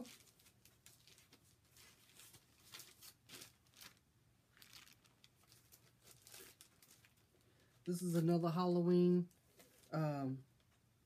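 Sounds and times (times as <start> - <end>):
packaging rustling and crinkling: 0.0 - 8.3, 9.3 - 10.0.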